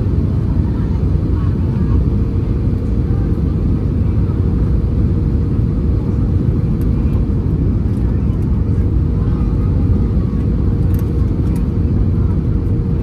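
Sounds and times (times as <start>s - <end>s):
airliner cabin engine rumble: 0.0s - 13.0s
droning hum: 0.0s - 13.0s.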